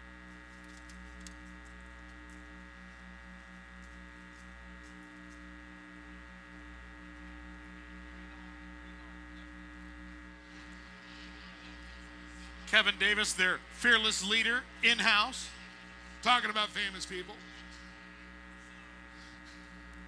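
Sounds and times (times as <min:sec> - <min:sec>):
electrical hum and buzz: 0:00.0 - 0:20.0.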